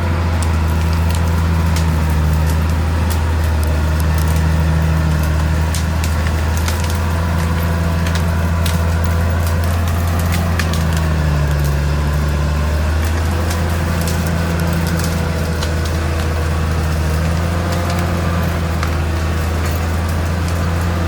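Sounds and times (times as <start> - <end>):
bulldozer diesel engine running: 0.0 - 21.0
wood splintering: 0.0 - 21.0.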